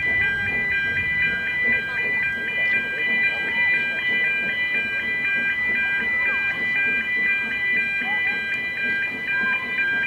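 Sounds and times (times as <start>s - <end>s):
faint voices: 0.0s - 10.0s.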